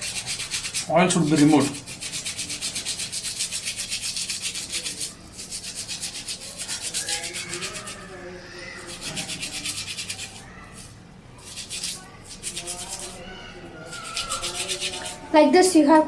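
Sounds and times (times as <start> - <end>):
toothbrush scrubbing brake pad: 0.0 - 15.3.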